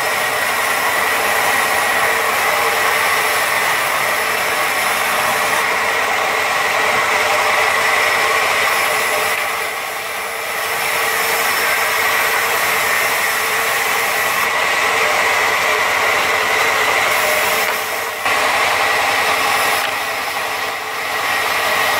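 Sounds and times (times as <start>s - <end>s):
band saw cutting log: 0.0s - 21.9s.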